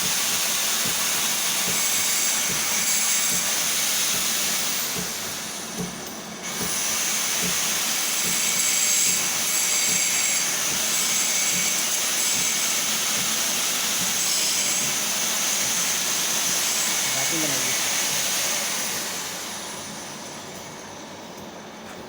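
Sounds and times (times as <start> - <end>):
machine tool cutting metal: 0.0 - 20.0.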